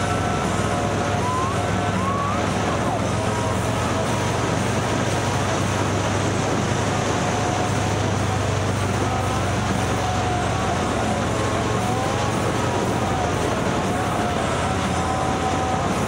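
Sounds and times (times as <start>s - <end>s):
vehicle engine hum and road noise: 0.0s - 16.0s.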